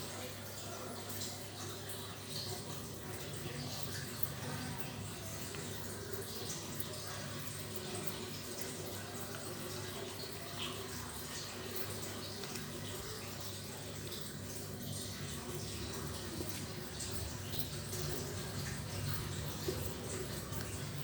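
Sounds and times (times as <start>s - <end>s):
cat licking and lapping: 0.0s - 21.0s
low background hum: 0.0s - 21.0s.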